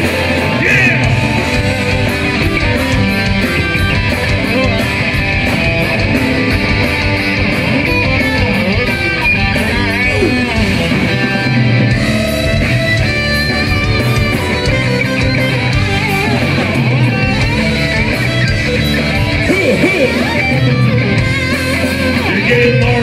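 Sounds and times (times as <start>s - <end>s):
drum kit beat: 0.0s - 23.0s
electric guitars: 0.0s - 23.0s.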